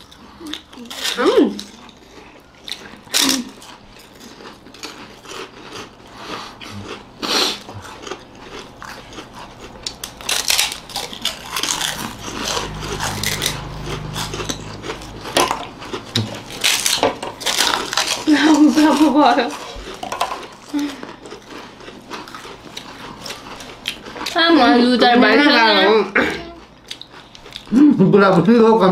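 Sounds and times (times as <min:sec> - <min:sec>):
people chewing crisp chips: 0:00.0 - 0:28.9.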